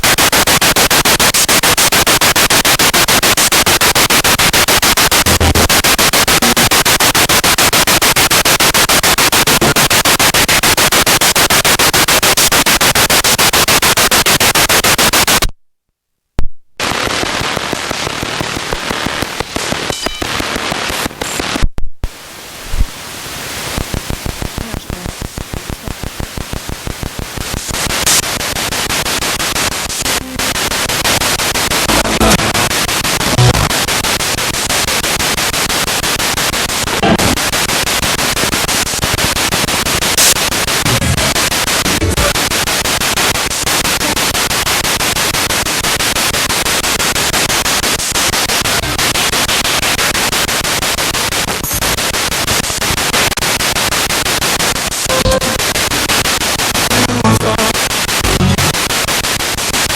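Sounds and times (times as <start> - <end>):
pulsing radio static: 0.0 - 15.5, 16.8 - 59.9
snatches of broadcast sound: 0.0 - 15.6, 16.4 - 59.9.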